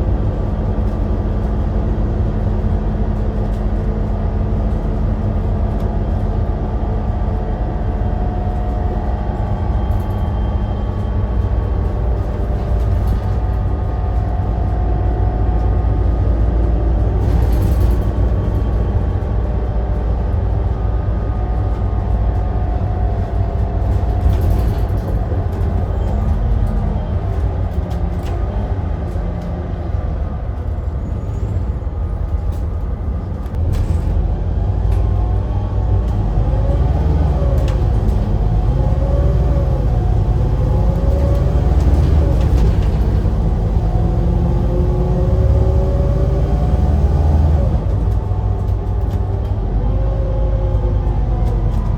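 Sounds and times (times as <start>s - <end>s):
bus engine rumble: 0.0s - 51.9s.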